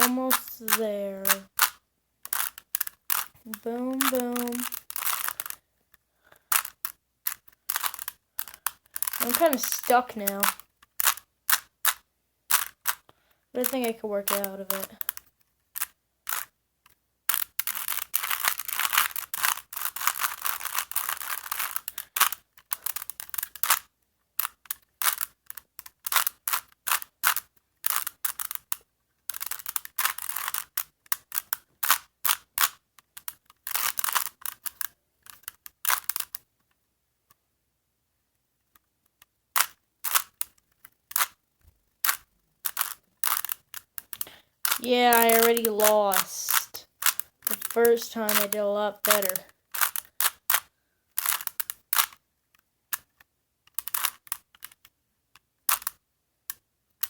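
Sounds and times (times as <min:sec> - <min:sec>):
puzzle cube layers clicking: 0:00.0 - 0:05.6, 0:06.4 - 0:36.5, 0:38.7 - 0:57.0.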